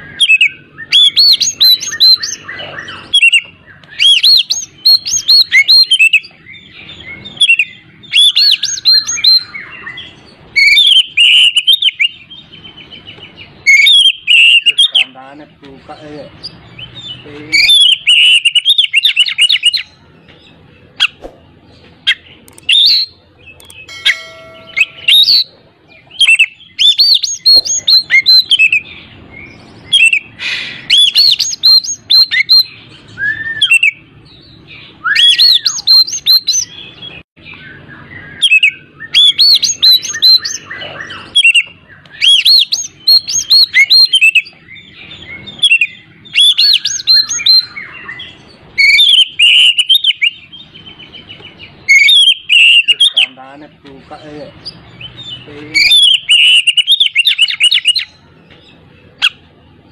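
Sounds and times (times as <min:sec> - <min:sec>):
bird singing: 0:00.0 - 0:59.9.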